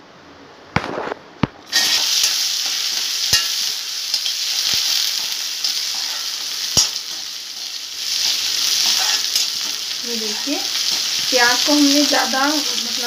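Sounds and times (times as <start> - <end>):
onions sizzling in hot oil: 1.6 - 13.0.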